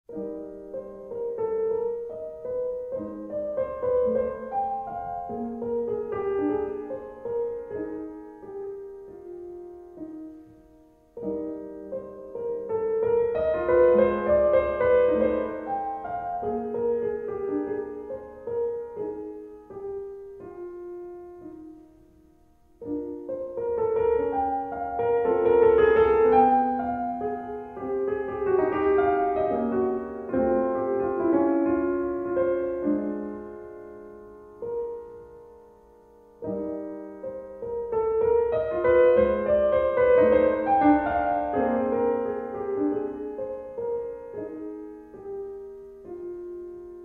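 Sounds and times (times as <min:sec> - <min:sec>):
slow piano music: 0:00.1 - 0:47.0.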